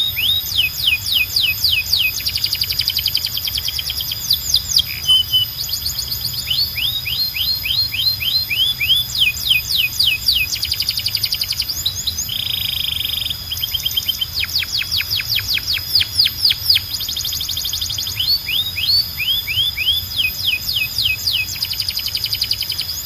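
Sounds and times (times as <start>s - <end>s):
buzzy bird trill: 0.0s - 23.0s
canary singing: 0.0s - 23.0s.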